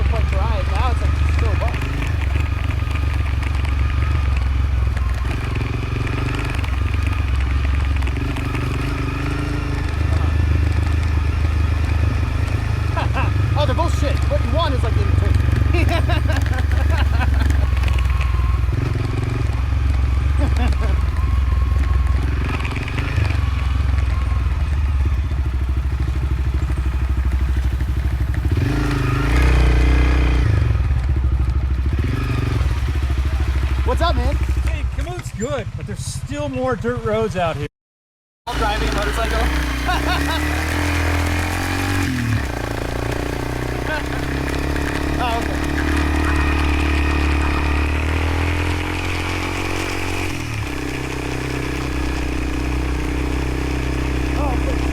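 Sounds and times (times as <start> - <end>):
motorcycle engine running: 0.0 - 37.7, 38.5 - 54.9.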